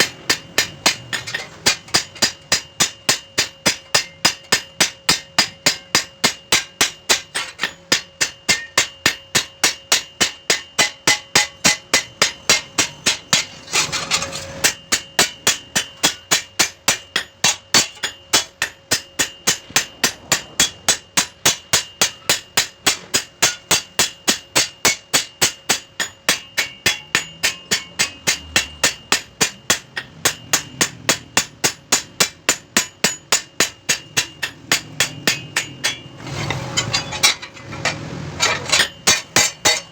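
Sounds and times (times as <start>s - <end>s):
hammer ringing on steel blade: 0.0s - 39.9s.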